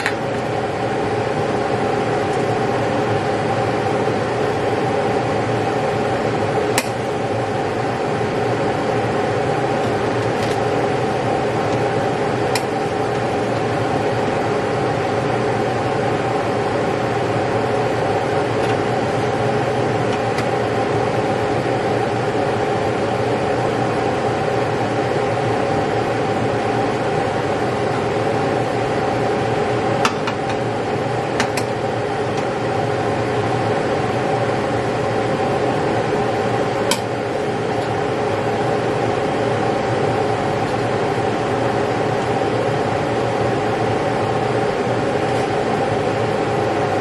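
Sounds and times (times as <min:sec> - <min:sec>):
loud mechanical hum: 0:00.0 - 0:47.0.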